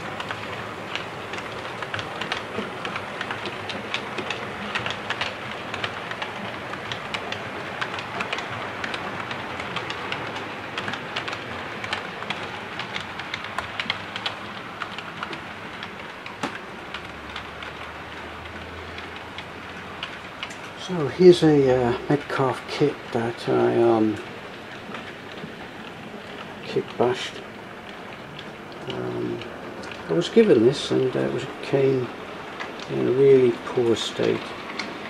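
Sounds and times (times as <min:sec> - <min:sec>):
wheels clicking over rail joints: 0:00.0 - 0:35.0.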